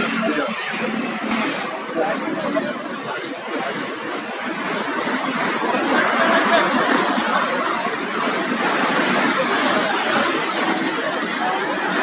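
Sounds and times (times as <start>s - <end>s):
crowd chatter: 0.0s - 12.0s
steady vehicle noise: 0.0s - 12.0s.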